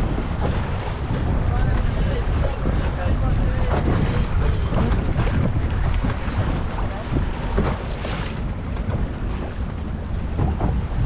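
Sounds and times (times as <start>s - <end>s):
boat motor: 0.0s - 11.0s
water noise: 0.0s - 11.0s
wind buffeting microphone: 0.0s - 11.0s.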